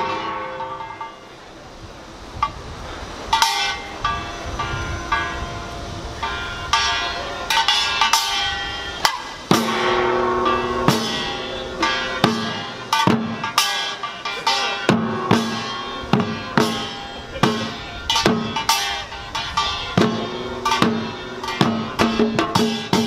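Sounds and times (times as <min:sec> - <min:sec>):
ringing gong strokes: 0:00.0 - 0:01.3, 0:03.4 - 0:23.0
drums: 0:00.0 - 0:23.0.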